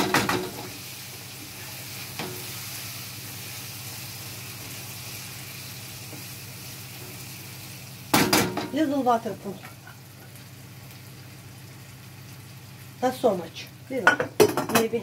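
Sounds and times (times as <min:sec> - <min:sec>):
sauce sizzling in a frying pan: 0:00.0 - 0:15.0.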